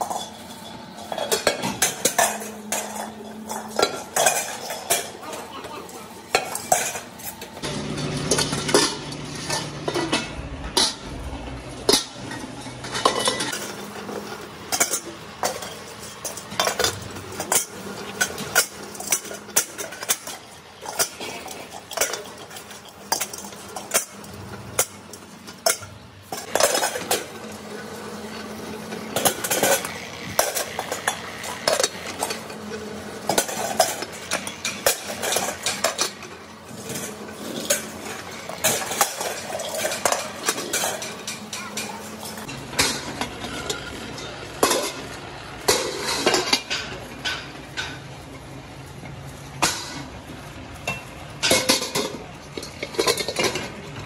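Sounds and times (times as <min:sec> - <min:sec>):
metal cylinder halves clanking: 0:00.0 - 0:48.0, 0:50.8 - 0:54.0.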